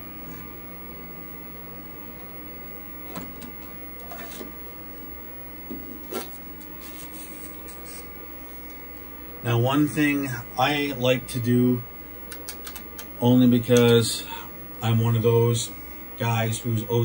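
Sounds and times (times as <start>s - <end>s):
computer fan and hard disk hum: 0.0s - 17.0s.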